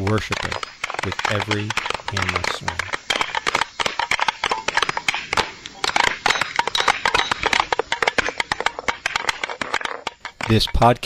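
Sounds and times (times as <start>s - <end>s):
dense clattering knocks: 0.0s - 11.0s.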